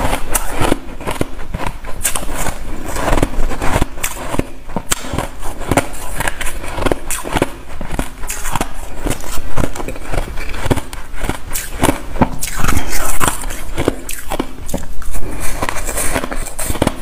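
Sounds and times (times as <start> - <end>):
snow-ice being chewed: 0.0 - 17.0.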